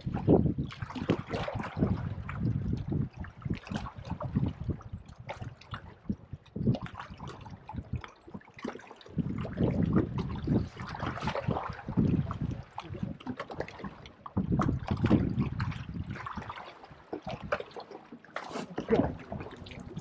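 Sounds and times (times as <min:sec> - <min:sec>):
water splashing against hull: 0:00.0 - 0:20.0
wind buffeting microphone: 0:00.0 - 0:20.0.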